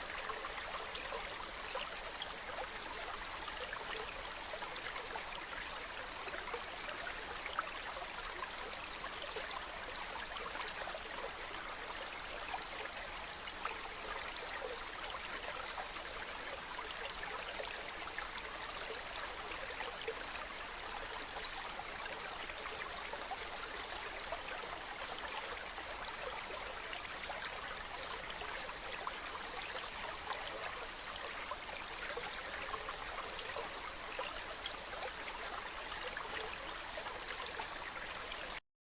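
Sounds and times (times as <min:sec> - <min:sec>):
stream of running water: 0:00.0 - 0:38.6.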